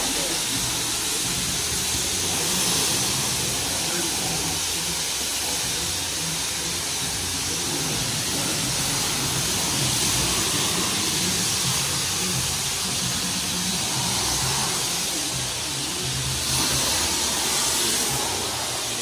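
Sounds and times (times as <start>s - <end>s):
pressure washer spraying water: 0.0s - 19.0s.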